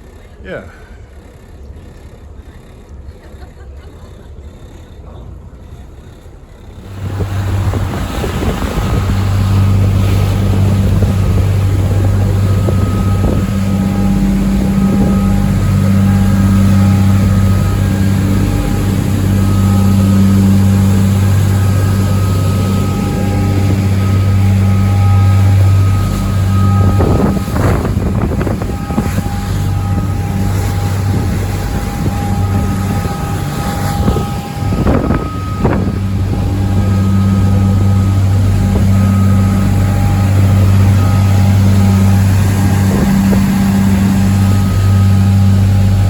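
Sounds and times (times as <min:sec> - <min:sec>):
diesel engines droning: 0:00.0 - 0:46.0
wind buffeting microphone: 0:06.8 - 0:46.0.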